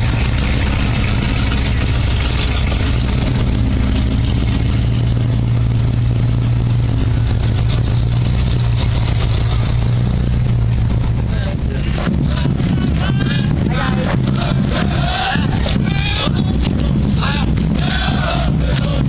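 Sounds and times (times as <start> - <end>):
car engines idling: 0.0 - 19.0
car rolling by close: 0.0 - 19.0.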